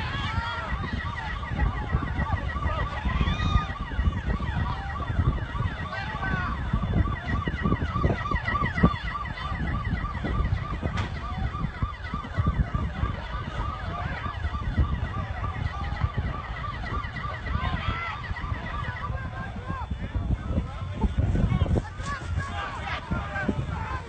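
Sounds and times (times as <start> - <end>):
emergency vehicle sirens: 0.0 - 24.0
wind rumbling on microphone: 0.0 - 24.0.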